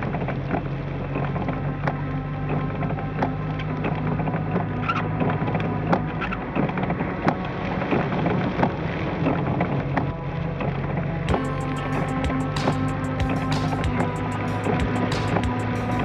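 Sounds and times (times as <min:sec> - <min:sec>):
engine and tyres droning: 0:00.0 - 0:16.0.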